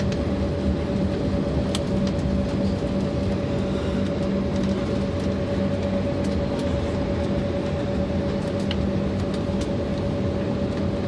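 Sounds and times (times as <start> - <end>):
jet engines humming: 0.0 - 11.0.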